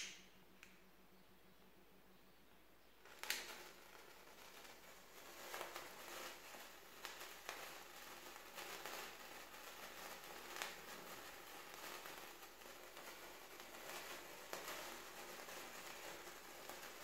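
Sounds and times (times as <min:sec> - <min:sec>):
sparkler fizzing and crackling: 0:03.0 - 0:17.0.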